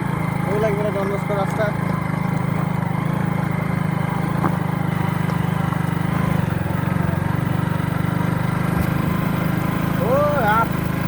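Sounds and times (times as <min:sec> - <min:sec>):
motorcycle engine pulsing: 0:00.0 - 0:11.0.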